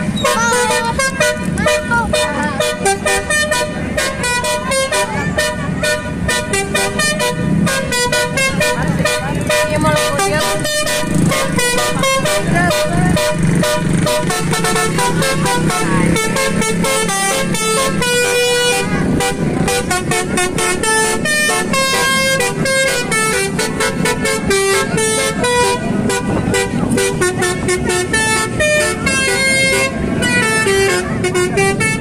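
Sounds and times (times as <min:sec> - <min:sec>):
multi-tone air horn melody: 0:00.0 - 0:32.0.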